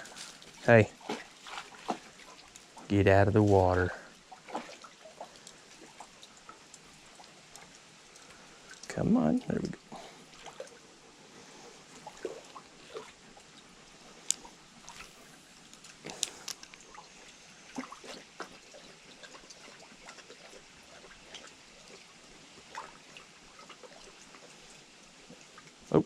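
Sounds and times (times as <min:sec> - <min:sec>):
creek water trickling: 0:00.0 - 0:26.0
light water splashes: 0:00.0 - 0:26.0.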